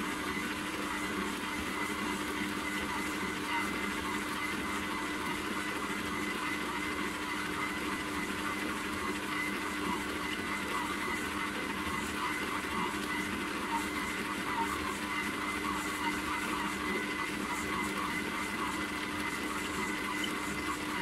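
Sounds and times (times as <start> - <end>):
stand mixer motor humming: 0.0 - 21.0.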